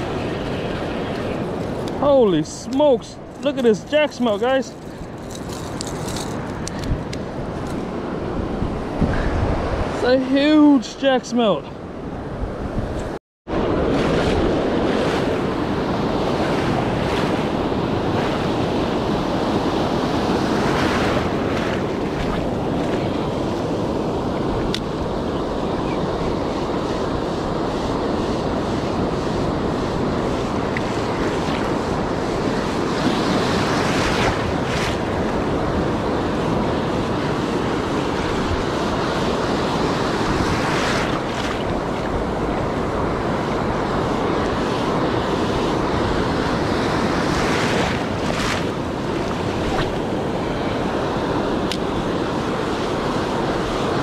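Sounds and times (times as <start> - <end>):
wind buffeting microphone: 0.0 - 10.1, 11.9 - 54.0
ocean surf breaking: 0.0 - 11.6, 13.5 - 54.0.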